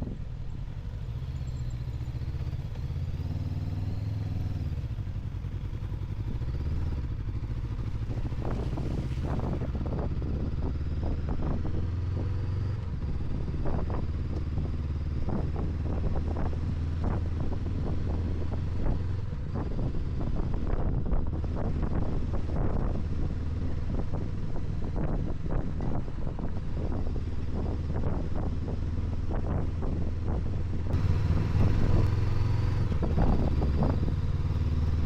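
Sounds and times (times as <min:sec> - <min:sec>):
motorcycle engine droning: 0:00.0 - 0:35.0.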